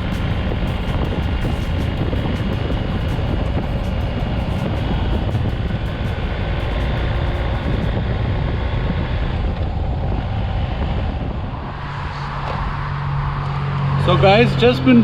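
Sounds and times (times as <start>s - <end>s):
motorcycle engine at road speed: 0.0s - 15.0s
wind rush over microphone: 0.0s - 15.0s.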